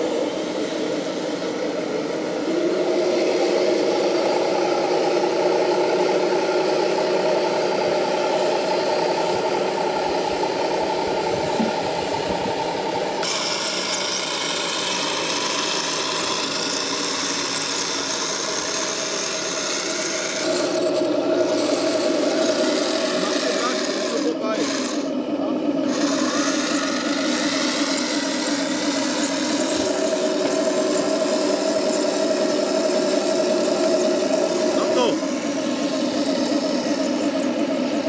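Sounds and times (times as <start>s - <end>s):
electric drive hum: 0.0s - 38.0s
high-pitched whine: 0.0s - 38.0s
model tank drone: 0.0s - 38.0s.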